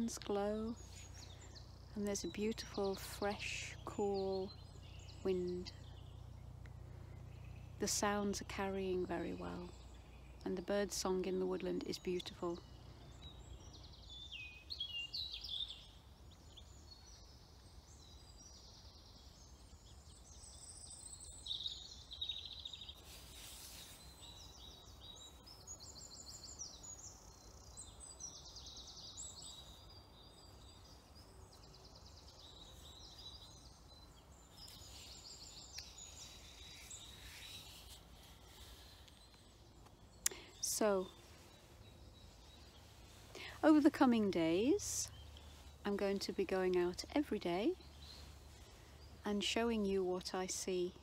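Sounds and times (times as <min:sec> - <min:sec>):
songbirds singing: 0:00.0 - 0:51.0.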